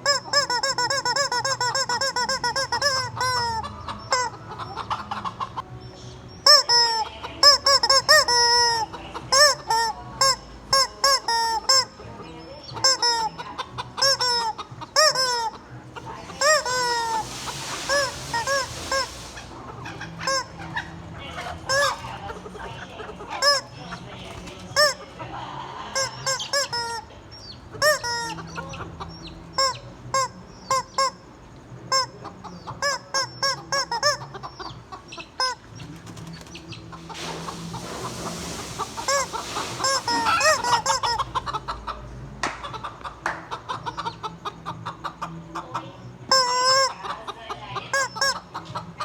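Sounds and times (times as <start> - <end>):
rubber chicken toy squawking: 0.0 - 5.6, 6.4 - 12.0, 12.6 - 24.0, 24.8 - 25.2, 25.8 - 35.8, 38.8 - 42.0, 43.5 - 49.0.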